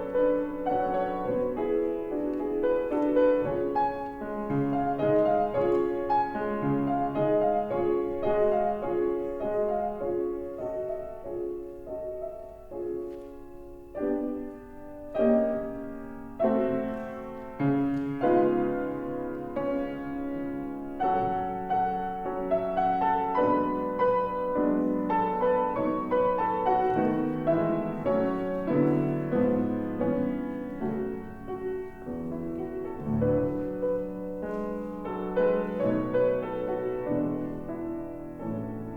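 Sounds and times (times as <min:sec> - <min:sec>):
slow gentle piano piece: 0:00.0 - 0:38.9.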